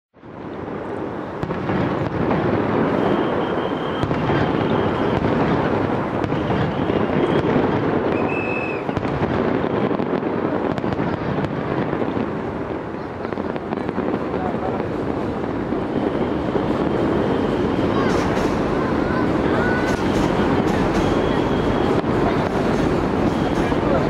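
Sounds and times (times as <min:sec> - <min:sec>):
fireworks bursting and crackling: 0:00.2 - 0:24.0.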